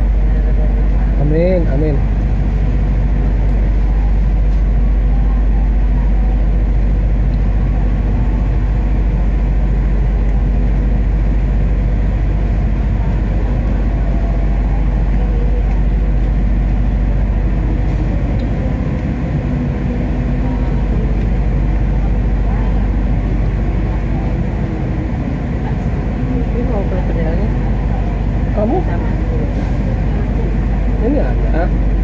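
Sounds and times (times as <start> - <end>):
train carriage rumble: 0.0 - 32.0.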